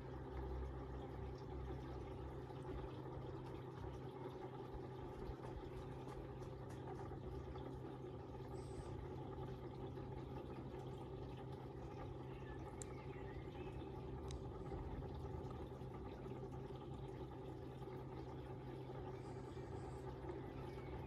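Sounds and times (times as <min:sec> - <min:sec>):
moving water: 0:00.0 - 0:21.0
pond pump humming: 0:00.0 - 0:21.0.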